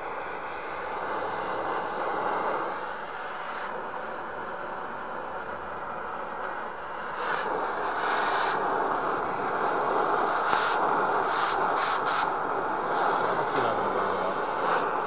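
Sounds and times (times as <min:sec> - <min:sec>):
cutting torch flame hissing: 0:00.0 - 0:15.0.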